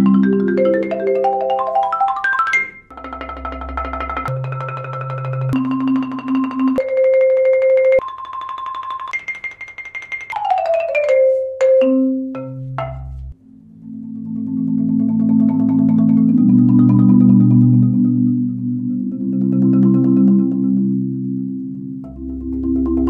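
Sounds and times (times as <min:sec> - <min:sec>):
marimba rolls and chords: 0:00.0 - 0:23.0.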